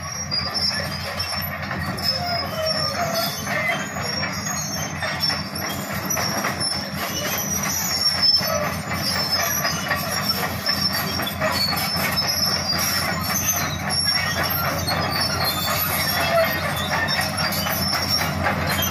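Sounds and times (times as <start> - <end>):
high-pitched metallic squeals: 0.0 - 18.9
diesel engine running: 0.1 - 18.9.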